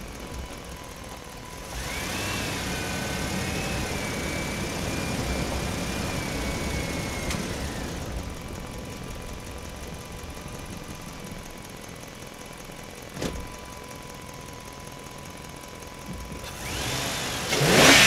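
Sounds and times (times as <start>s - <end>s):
engine-like rumble: 0.0s - 18.0s.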